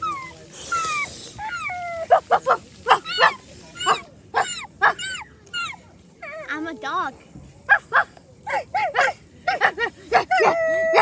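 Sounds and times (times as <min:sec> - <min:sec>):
dog yipping: 0:00.0 - 0:06.5, 0:07.7 - 0:11.0.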